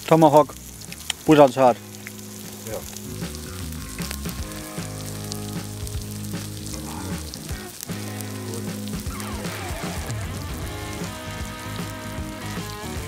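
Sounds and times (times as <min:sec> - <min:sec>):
campfire crackling and popping: 0:00.0 - 0:13.0
background music of held chords: 0:00.5 - 0:13.0.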